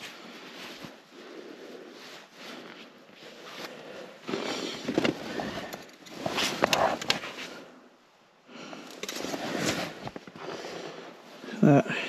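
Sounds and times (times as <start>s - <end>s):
gloved hands handling rustling: 0.0s - 7.7s, 8.6s - 11.6s.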